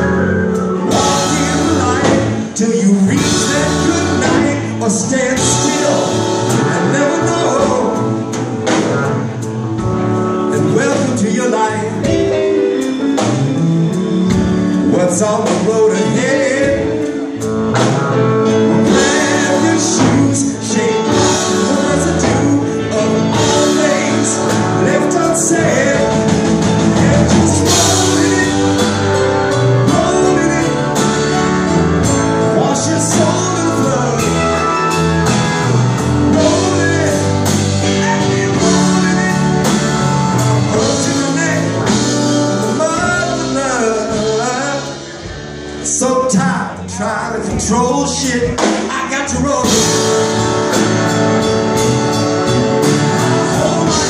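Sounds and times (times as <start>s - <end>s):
drums: 0.0s - 54.0s
electric bass: 0.0s - 54.0s
electric guitar: 0.0s - 54.0s
keyboards: 0.0s - 54.0s
piano: 0.0s - 54.0s.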